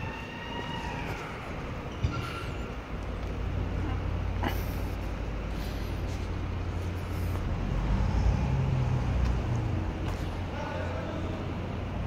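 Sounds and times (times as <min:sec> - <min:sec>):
large vehicle engine rumbling: 0:00.0 - 0:12.0.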